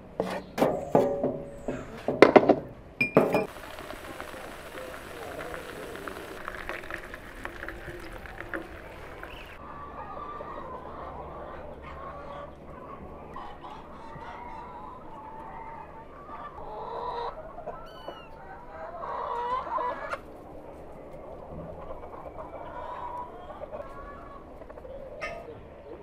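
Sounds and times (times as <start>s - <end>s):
chickens clucking: 3.4s - 26.0s.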